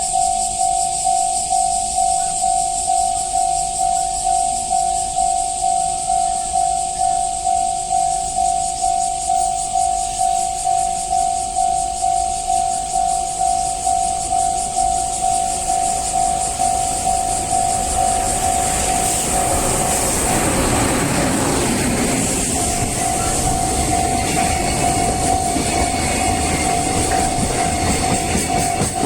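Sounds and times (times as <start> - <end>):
level-crossing alarm bell: 0.0 - 29.0
train wheels rumbling on rails: 1.8 - 29.0.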